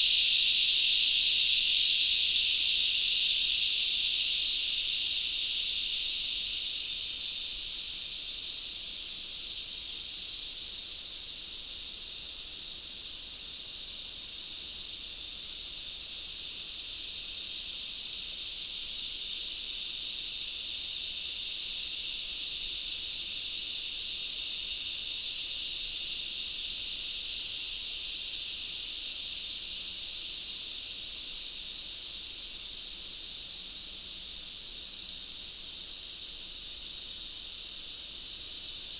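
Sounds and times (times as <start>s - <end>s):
jungle insects droning: 0.0s - 38.9s.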